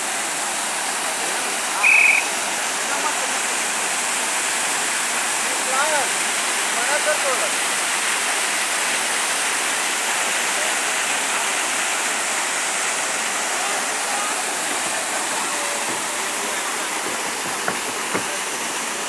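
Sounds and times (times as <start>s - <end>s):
waterfall rushing into pool: 0.0s - 19.0s.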